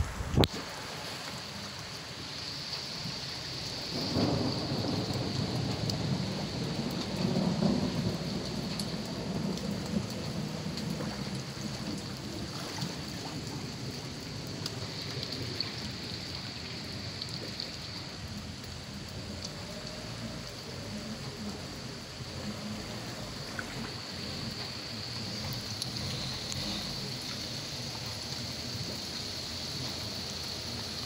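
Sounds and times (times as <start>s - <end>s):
torrential rain hissing: 0.0s - 31.0s
low rumble of thunder: 3.6s - 31.0s.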